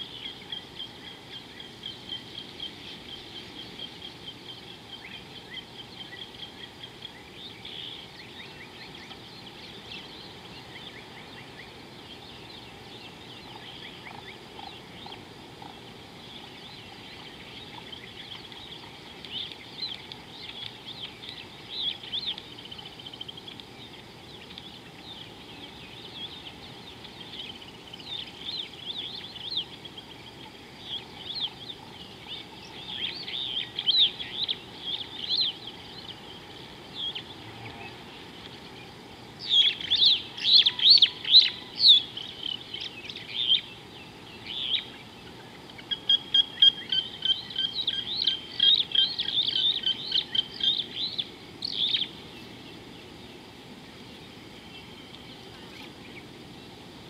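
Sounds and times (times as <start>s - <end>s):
steady background hiss: 0.0s - 57.0s
wild birds chirping: 0.0s - 57.0s.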